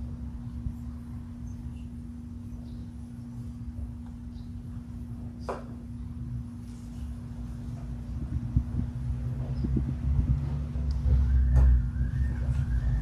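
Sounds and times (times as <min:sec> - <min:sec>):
low background rumble: 0:00.0 - 0:13.0
steady low hum: 0:00.0 - 0:13.0.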